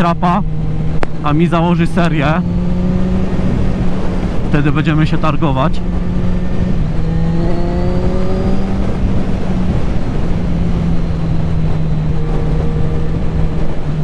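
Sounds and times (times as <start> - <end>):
motorcycle engine accelerating: 0.0 - 14.0
wind rush: 0.0 - 14.0.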